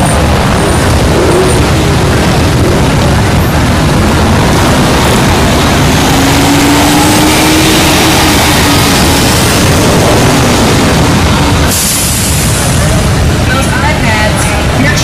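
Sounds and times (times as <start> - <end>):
fire truck engine: 0.0 - 15.0
motorcycle engines rumbling: 0.0 - 15.0.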